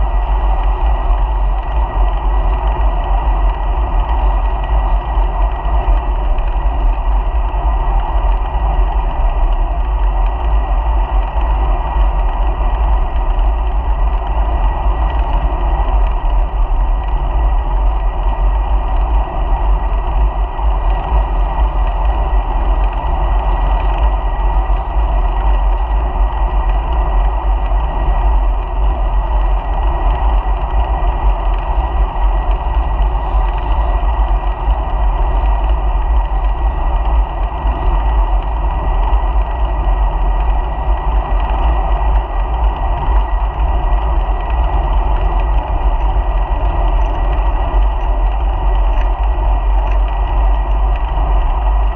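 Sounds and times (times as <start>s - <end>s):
road vibration rumble: 0.0s - 51.9s.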